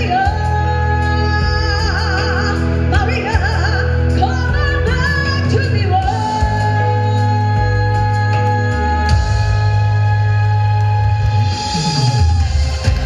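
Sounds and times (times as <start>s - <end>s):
woman singing into microphone: 0.0s - 11.7s
amplified backing music: 0.0s - 13.0s.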